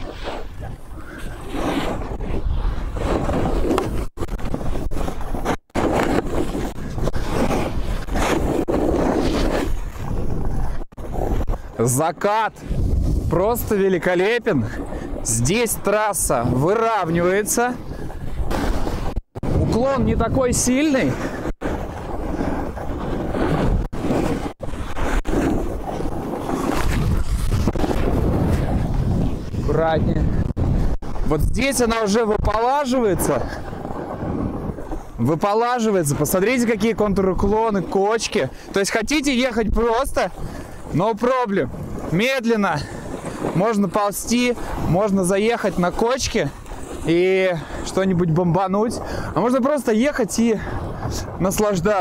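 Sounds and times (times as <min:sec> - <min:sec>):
snowboard scraping over snow: 0:00.0 - 0:52.0
wind rushing over microphone: 0:00.0 - 0:52.0.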